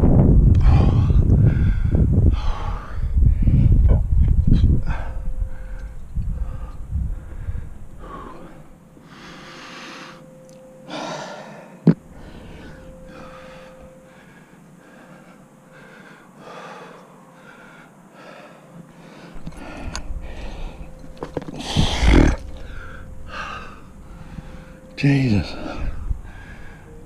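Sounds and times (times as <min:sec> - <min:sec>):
person breathing hard: 0:00.6 - 0:03.9, 0:04.6 - 0:10.3, 0:10.9 - 0:27.0.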